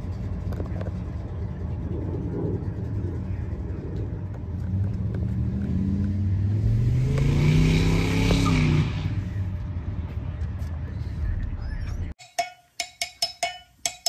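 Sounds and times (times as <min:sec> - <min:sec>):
car engine accelerating: 0:00.0 - 0:12.1.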